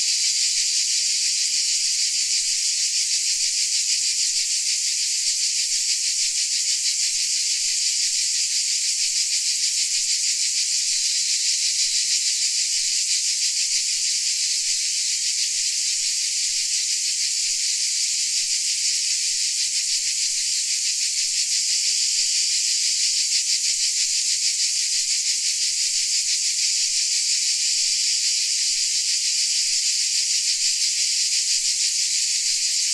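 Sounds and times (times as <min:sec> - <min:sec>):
crickets chirping: 0:00.0 - 0:32.9.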